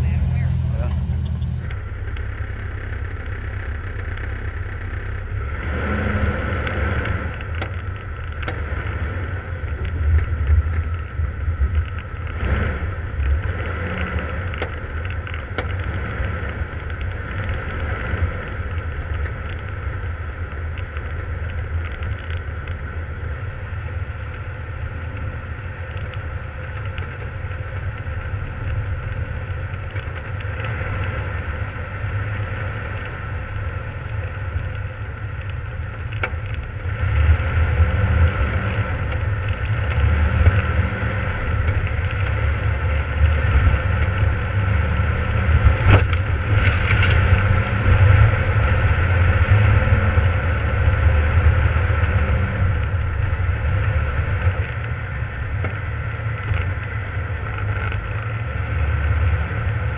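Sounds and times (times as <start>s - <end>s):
vehicle engine and tyre rumble: 0.0s - 59.9s.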